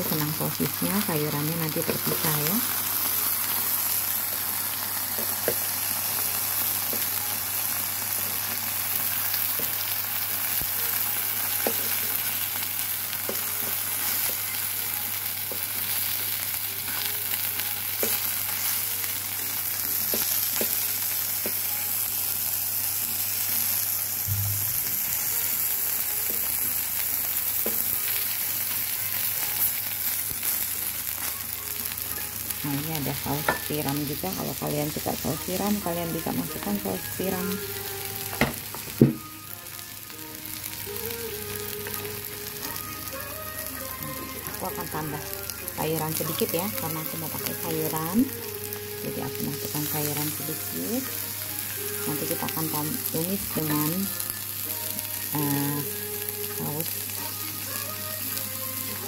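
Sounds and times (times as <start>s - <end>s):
food sizzling in oil on griddle: 0.0s - 59.0s.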